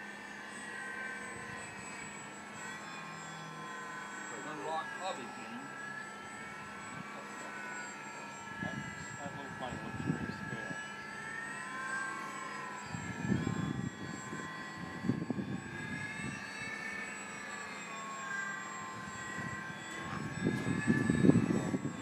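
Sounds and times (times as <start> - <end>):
model airplane engine whine: 0.0 - 22.0.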